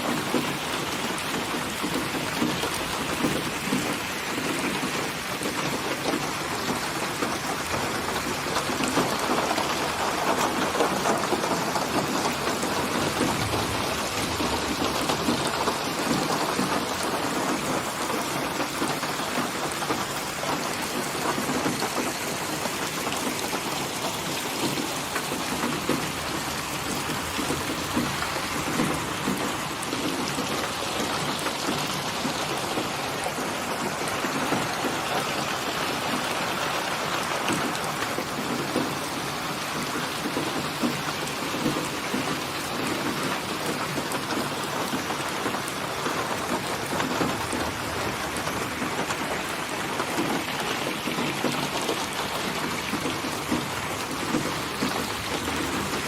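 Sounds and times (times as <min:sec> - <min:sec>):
heavy rain on hard surface: 0:00.0 - 0:56.0.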